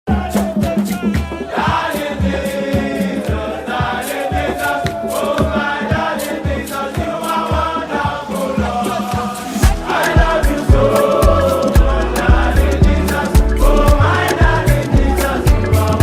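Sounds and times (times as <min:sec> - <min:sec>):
group of voices singing: 0:00.1 - 0:16.0
steady drum beat: 0:00.1 - 0:16.0.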